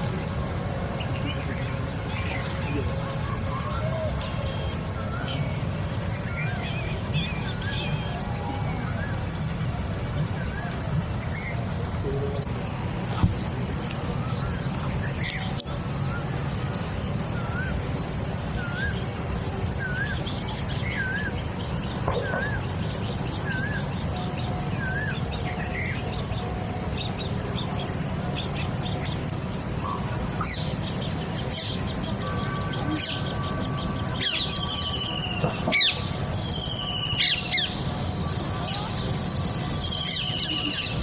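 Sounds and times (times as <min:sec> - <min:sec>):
birds calling: 0:00.0 - 0:41.0
steady high-pitched hiss: 0:00.0 - 0:41.0.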